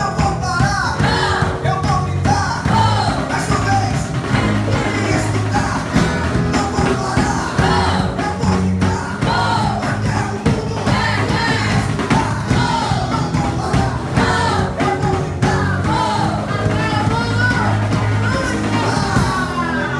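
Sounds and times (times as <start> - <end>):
lead singer singing: 0.0 - 19.9
rock band music: 0.0 - 19.9.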